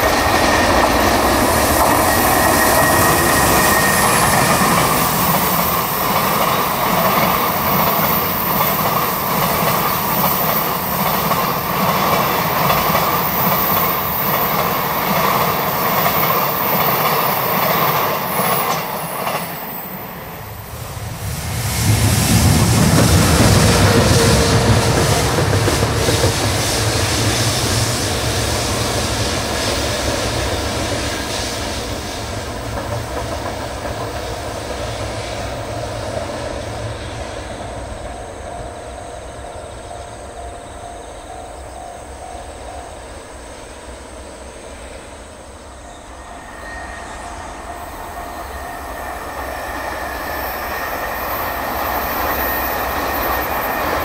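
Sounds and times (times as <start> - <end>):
approaching freight train rumble: 0.0 - 54.0
locomotive wheels rumbling on rail: 0.0 - 54.0.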